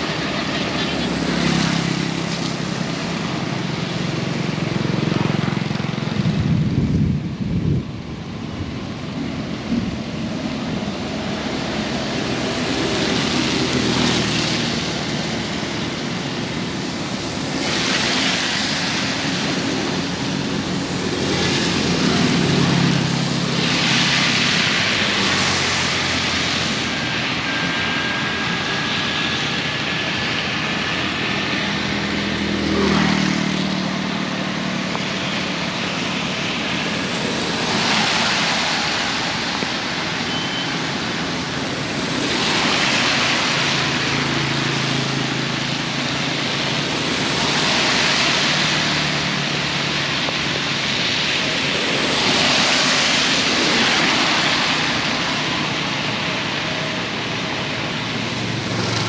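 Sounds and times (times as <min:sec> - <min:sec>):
heavy rain: 0:00.0 - 0:59.0
wind gusting over microphone: 0:00.0 - 0:59.0.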